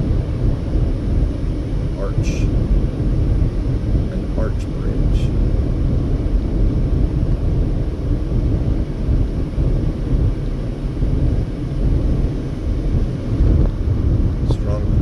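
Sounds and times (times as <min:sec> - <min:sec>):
car tyre and wind noise: 0:00.0 - 0:15.0.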